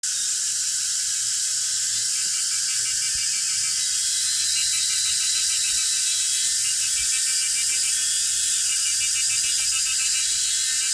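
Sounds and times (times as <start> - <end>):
cicadas buzzing: 0.2 - 10.9.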